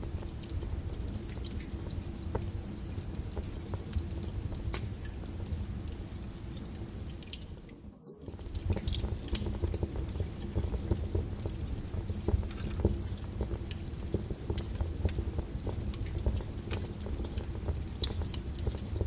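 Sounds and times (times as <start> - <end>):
burning logs crackling and popping: 0.0 - 19.0
low rumble of flames: 0.0 - 19.0.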